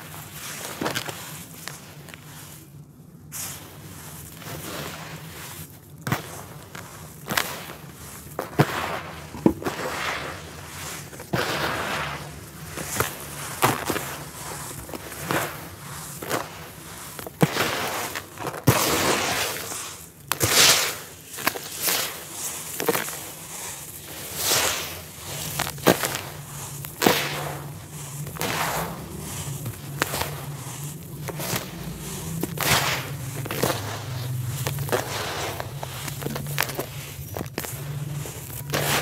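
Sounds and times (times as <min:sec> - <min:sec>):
sand grains pouring: 0:03.3 - 0:39.0
dirt clumps crumbling by hand: 0:04.2 - 0:39.0.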